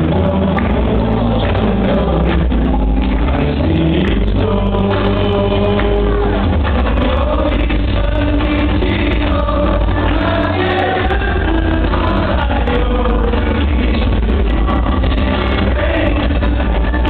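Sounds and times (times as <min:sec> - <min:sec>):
group singing over bass-heavy music: 0:00.0 - 0:17.0.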